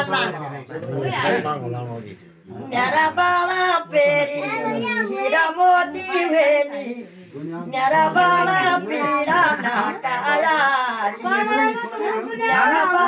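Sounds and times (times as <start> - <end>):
unaccompanied voices singing: 2.5 - 13.0.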